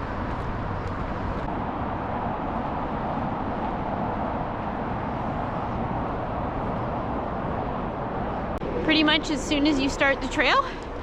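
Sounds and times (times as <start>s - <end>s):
highway traffic rushing: 0.0s - 11.0s.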